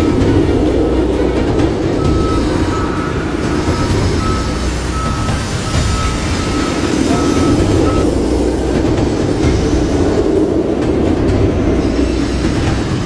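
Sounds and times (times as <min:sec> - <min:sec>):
roller coaster wheels rumbling: 0:00.0 - 0:13.0
rushing wind: 0:00.0 - 0:13.0.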